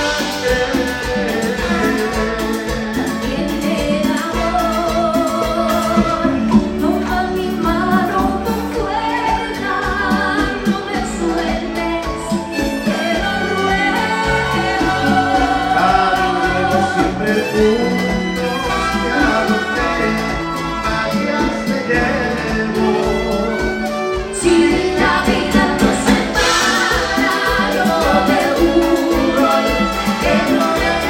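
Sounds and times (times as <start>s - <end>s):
live dance band playing: 0.0s - 31.0s.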